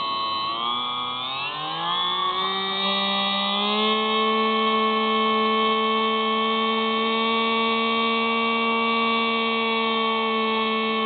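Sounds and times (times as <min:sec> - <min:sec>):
electric motor and propeller whining: 0:00.0 - 0:11.0.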